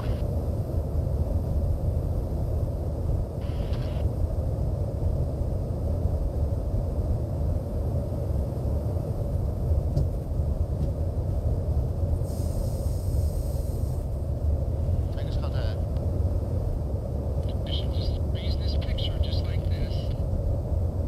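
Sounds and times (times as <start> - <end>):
aircraft engines droning: 0.0 - 21.0.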